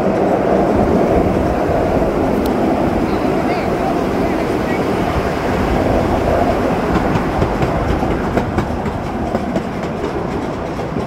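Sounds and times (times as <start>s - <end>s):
miniature train rolling rumble: 0.0s - 11.0s
wheels clicking on rails: 0.0s - 11.0s.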